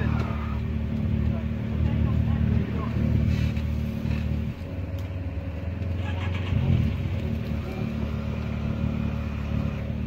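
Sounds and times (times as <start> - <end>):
engine idling and revving: 0.0 - 10.0.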